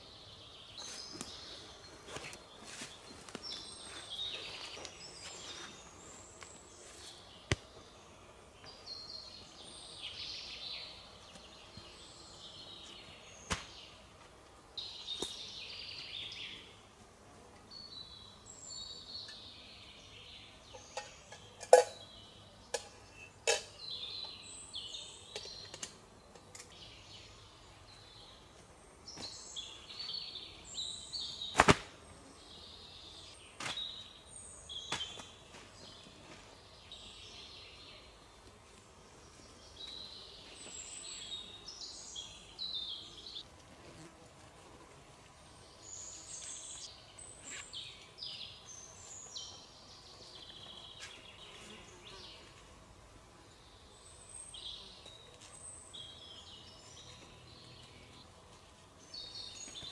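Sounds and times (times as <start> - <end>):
forest birdsong: 0.0 - 59.9.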